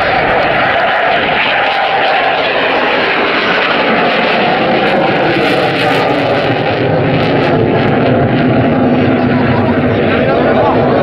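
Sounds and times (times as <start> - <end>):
jet fighter roar: 0.0 - 11.0.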